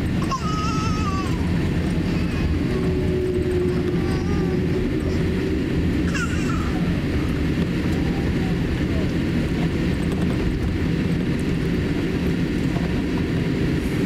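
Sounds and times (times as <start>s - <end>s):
low rumble of engines and wheels: 0.0s - 14.0s.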